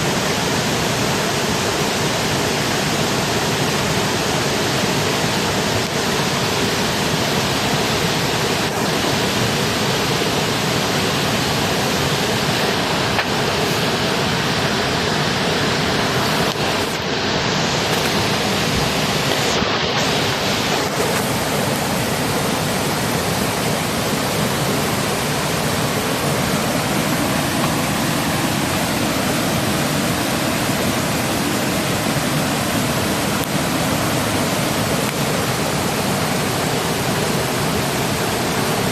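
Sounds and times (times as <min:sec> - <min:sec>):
water flowing: 0:00.0 - 0:38.9.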